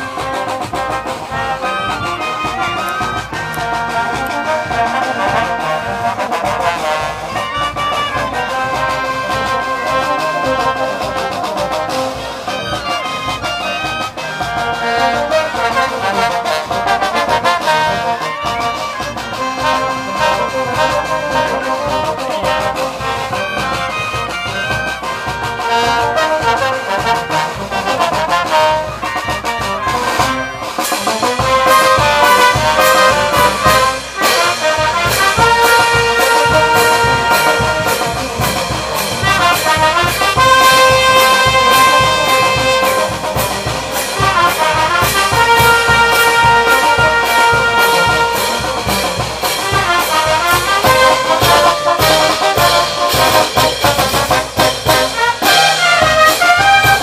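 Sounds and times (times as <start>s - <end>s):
bass drum and snare beat: 0.0s - 57.0s
brass band playing: 0.0s - 57.0s.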